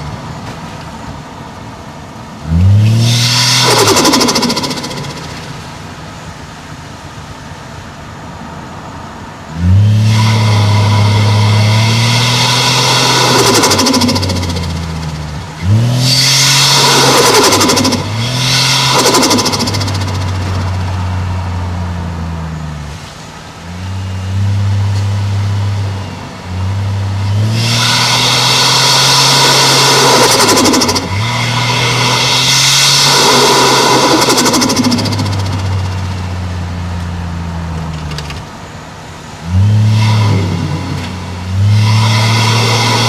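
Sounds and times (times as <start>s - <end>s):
car engine accelerating hard: 0.0s - 43.0s.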